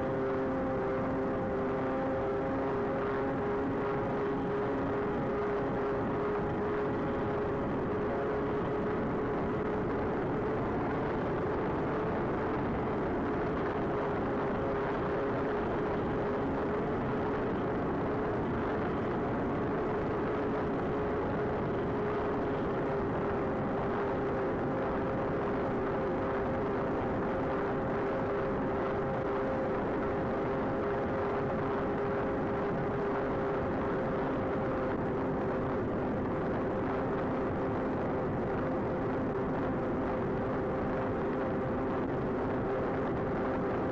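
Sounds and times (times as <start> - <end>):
propeller hum: 0.0 - 43.9
wind noise: 0.0 - 43.9.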